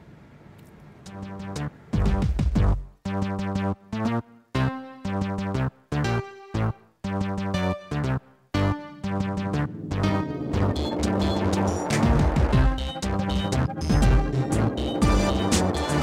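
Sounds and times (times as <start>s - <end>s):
synthesizer chord stabs: 1.1s - 1.7s, 3.1s - 16.0s.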